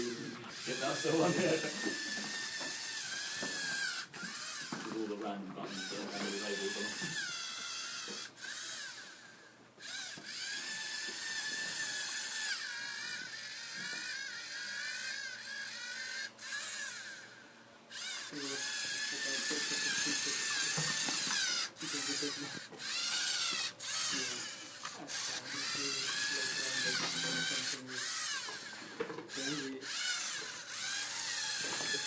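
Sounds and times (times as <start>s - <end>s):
small electric motors whining: 0.0s - 32.0s.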